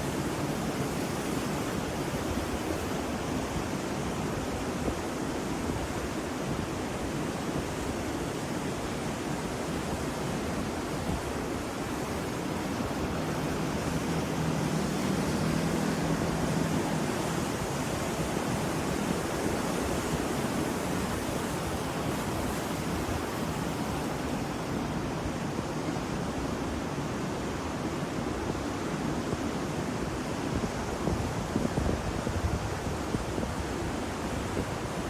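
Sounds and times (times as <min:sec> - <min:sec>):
ocean surf rushing: 0:00.0 - 0:35.0.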